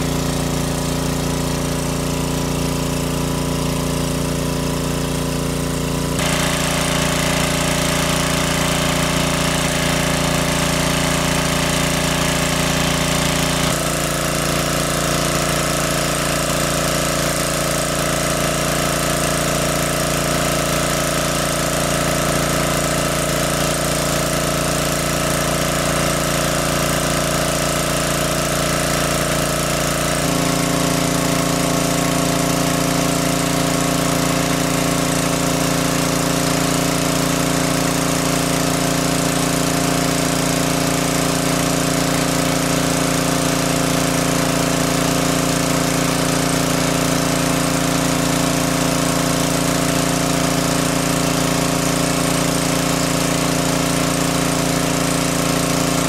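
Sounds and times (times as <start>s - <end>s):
small engine driving water pump: 0.0s - 56.0s.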